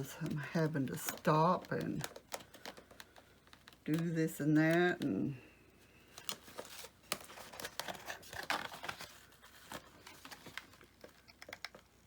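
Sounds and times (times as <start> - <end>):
craft materials rustling and crinkling: 0.0 - 12.0.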